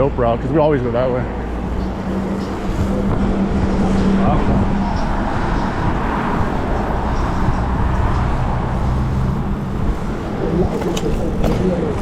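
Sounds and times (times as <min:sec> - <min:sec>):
road noise: 0:00.0 - 0:12.0
wind on microphone: 0:01.3 - 0:12.0.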